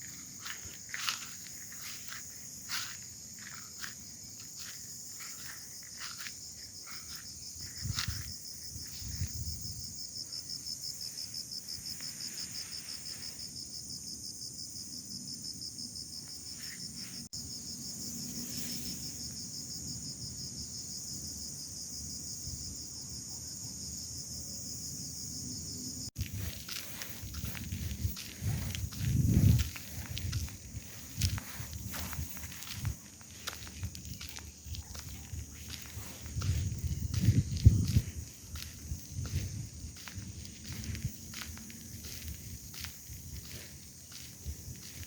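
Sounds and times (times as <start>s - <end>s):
insects chirring drone: 0.0s - 45.0s.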